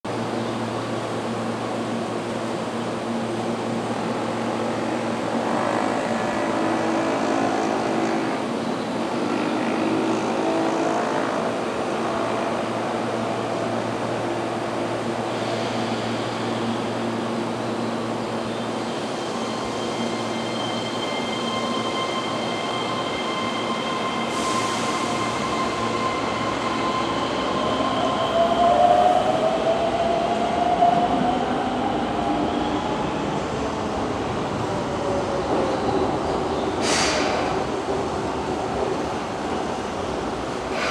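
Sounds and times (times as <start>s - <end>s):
electric train slowing to a stop: 0.1s - 40.9s.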